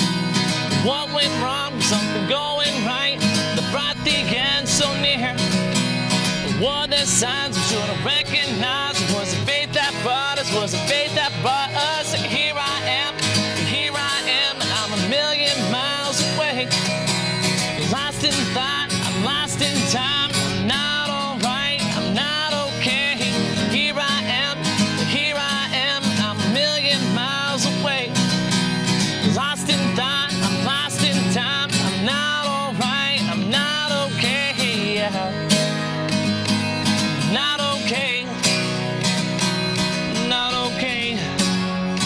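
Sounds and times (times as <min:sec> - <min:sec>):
acoustic guitar strummed and picked: 0:00.0 - 0:42.0.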